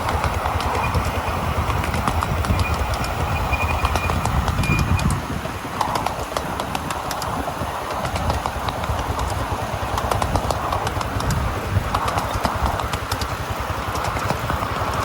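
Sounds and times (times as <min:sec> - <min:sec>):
miniature train rumbling: 0:00.0 - 0:15.0
wheels clicking over rails: 0:00.0 - 0:15.0.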